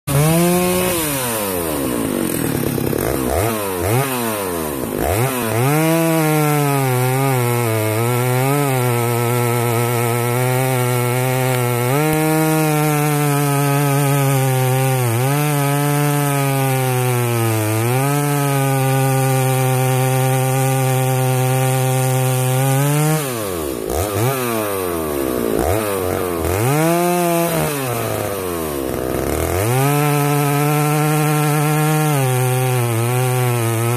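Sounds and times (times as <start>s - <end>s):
chainsaw revving: 0.1s - 33.9s.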